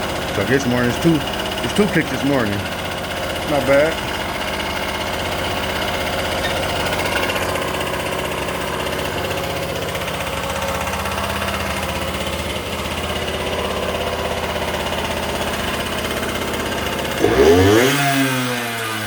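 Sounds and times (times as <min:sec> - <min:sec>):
two-stroke engine idling: 0:00.0 - 0:19.0.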